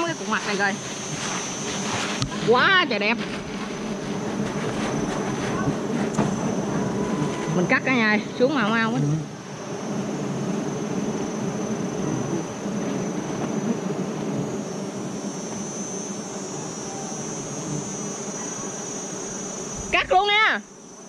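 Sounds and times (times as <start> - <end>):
bees buzzing densely: 0.0 - 21.0
high insect whine: 0.0 - 21.0.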